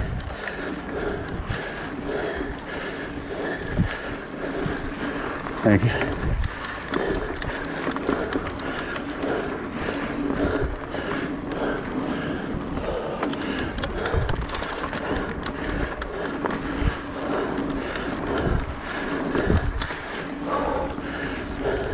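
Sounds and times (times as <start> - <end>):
bike rattling and clicking: 0.0 - 21.9.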